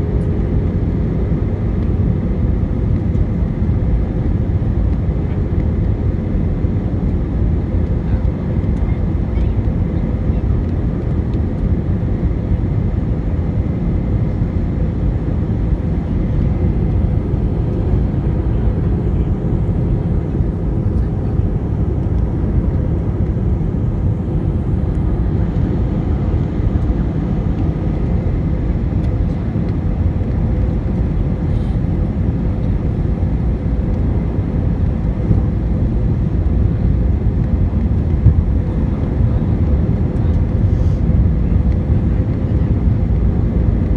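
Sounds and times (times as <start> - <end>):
jet engine cabin rumble: 0.0 - 43.9.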